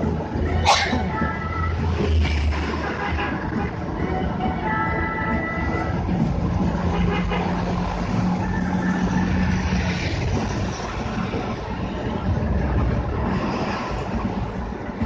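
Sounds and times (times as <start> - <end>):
road vehicles passing: 0.0 - 15.0.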